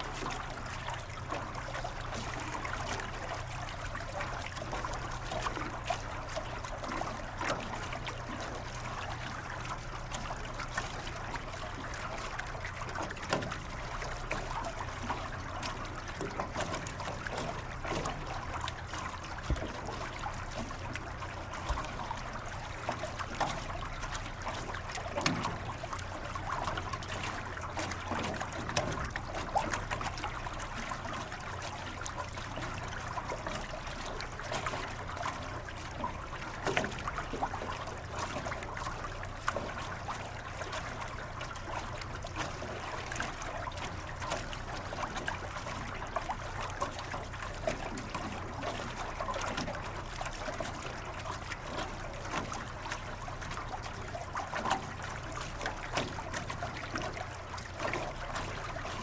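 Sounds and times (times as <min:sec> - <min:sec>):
low steady hum: 0:00.0 - 0:59.0
water trickling and gurgling: 0:00.0 - 0:59.0.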